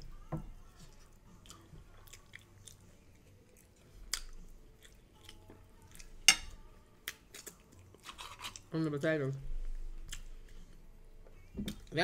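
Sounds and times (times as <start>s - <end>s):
person chewing food: 0.7s - 8.7s, 9.7s - 11.9s.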